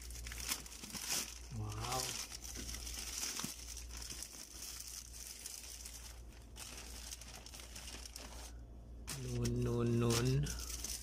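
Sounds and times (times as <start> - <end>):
low steady hum: 0.0 - 11.0
plastic packaging crinkling: 0.0 - 11.0.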